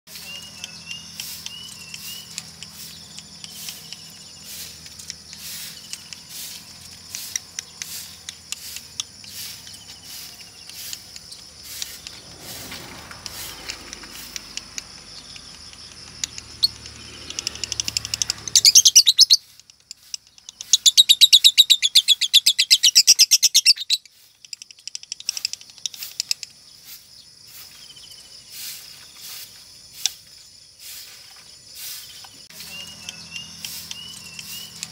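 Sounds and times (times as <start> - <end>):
lovebird chirping: 0.1 - 34.9
rapid rattling bird trill: 0.1 - 34.9.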